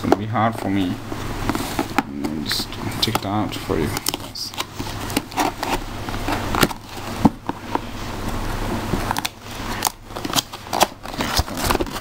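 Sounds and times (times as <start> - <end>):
packaging being opened by hand: 0.0 - 7.9, 8.9 - 12.0.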